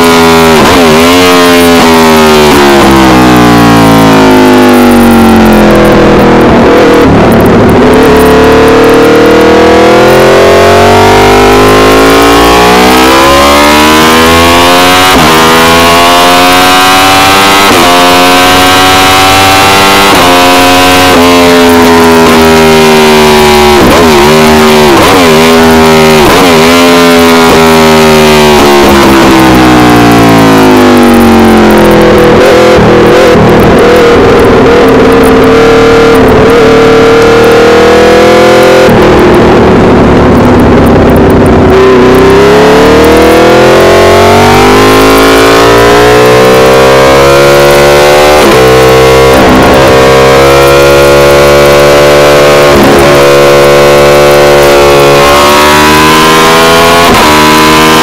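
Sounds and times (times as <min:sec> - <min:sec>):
motorcycle engine revving hard: 0:00.0 - 0:58.0.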